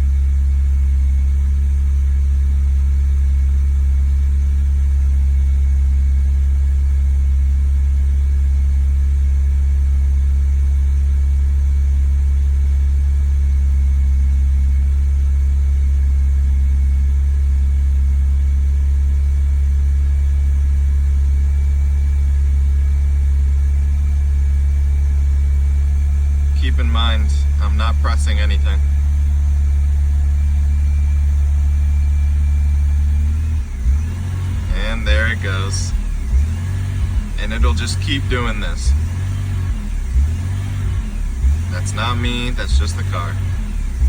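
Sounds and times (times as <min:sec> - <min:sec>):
car engine idling roughly: 0:00.0 - 0:44.0.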